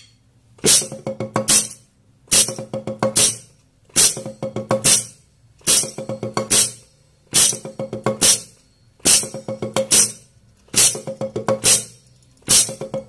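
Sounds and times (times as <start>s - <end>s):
drumsticks on practice pad: 0.0s - 13.0s.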